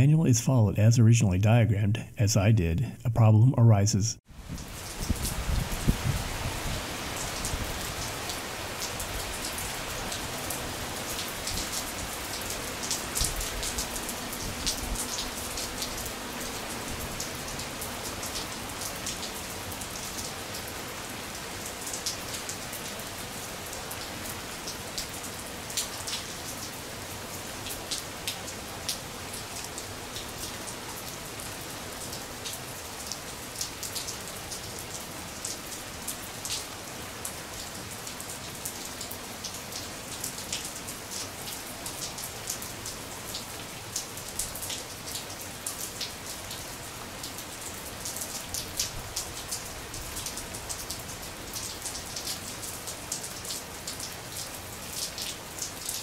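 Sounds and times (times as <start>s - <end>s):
steady rain hiss: 0.0s - 56.0s
light ticks of raindrops: 4.3s - 56.0s.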